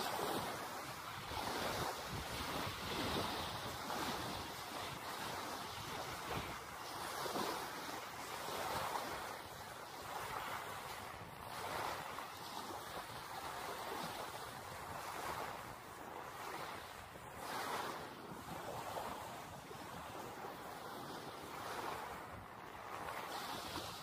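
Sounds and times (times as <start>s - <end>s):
small waves on a sandy beach: 0.0s - 24.0s.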